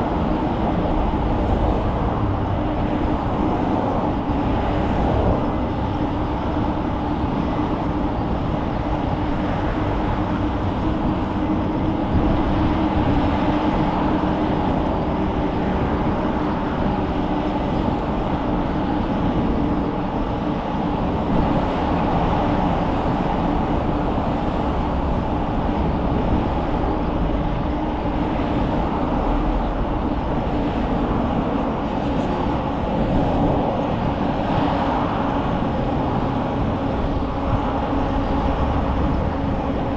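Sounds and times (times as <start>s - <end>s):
bicycle tyres humming on pavement: 0.0s - 39.9s.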